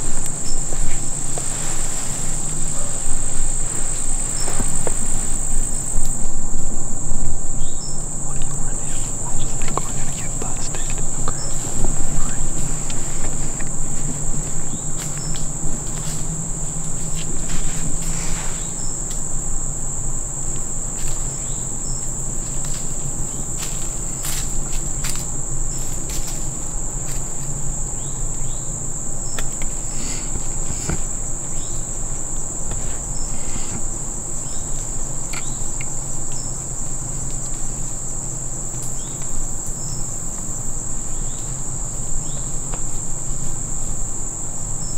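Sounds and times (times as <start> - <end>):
insects trilling: 0.0 - 44.9
low steady hum: 0.0 - 44.9.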